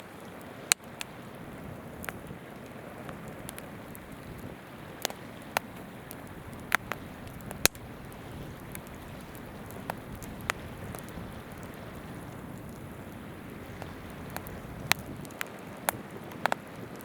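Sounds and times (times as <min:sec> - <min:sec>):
campfire crackling and popping: 0:00.0 - 0:17.0
flowing river rushing: 0:00.0 - 0:17.0.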